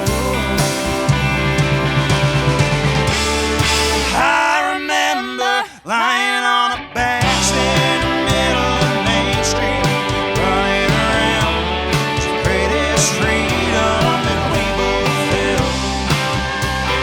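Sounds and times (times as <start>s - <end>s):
live band playing: 0.0s - 4.6s, 7.2s - 17.0s.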